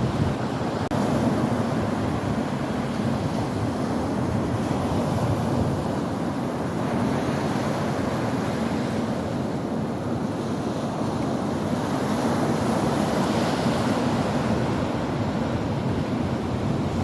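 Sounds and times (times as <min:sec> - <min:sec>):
wind on microphone: 0:00.0 - 0:09.7, 0:10.4 - 0:17.0.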